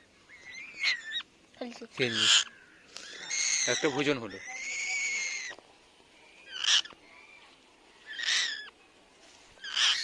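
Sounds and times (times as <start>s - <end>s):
young bird calling: 0.2s - 5.6s, 6.2s - 8.8s, 9.6s - 10.0s.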